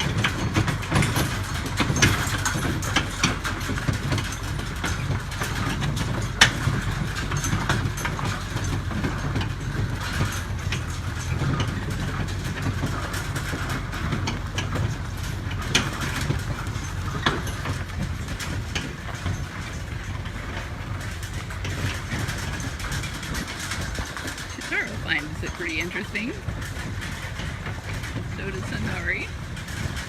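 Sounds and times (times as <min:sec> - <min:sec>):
sharp rattling clicks: 0:00.0 - 0:30.0
vehicle engine rumbling: 0:00.0 - 0:30.0.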